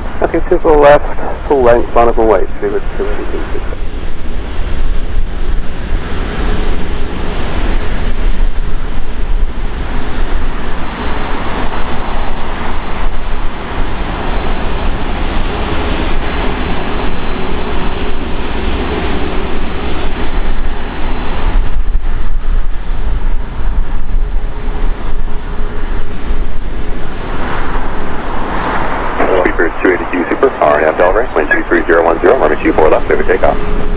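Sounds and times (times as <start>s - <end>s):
high-pitched whine: 0.0s - 33.9s
jet engine rumble: 0.0s - 33.9s.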